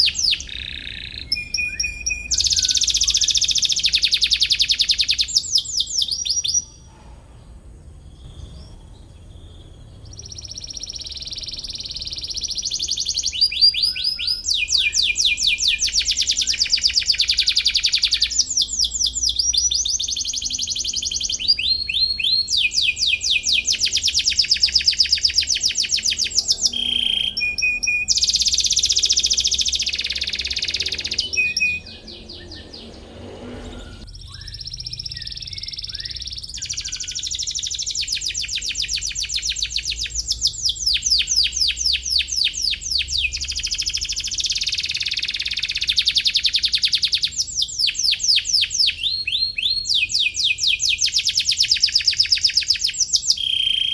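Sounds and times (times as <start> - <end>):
canary trilling: 0.0 - 6.9, 8.2 - 53.9
canary chirps: 0.0 - 7.1, 7.9 - 53.9.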